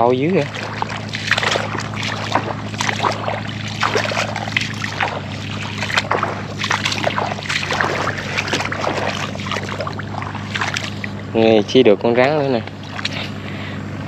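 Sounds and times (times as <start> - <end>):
low hum: 0.0 - 14.0
wading through shallow water: 0.0 - 14.0.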